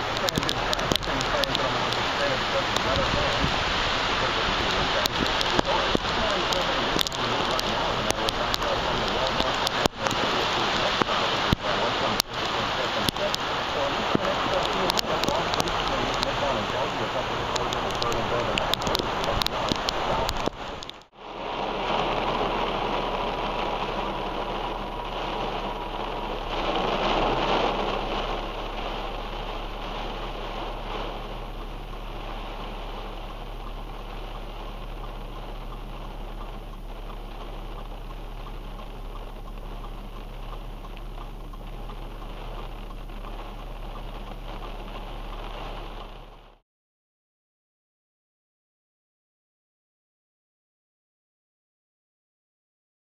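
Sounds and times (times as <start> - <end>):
heavy rain pouring: 0.0 - 46.6.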